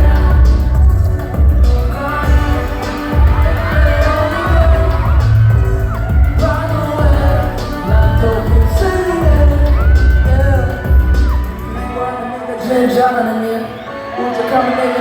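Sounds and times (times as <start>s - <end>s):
pop song over sound system: 0.0s - 15.0s.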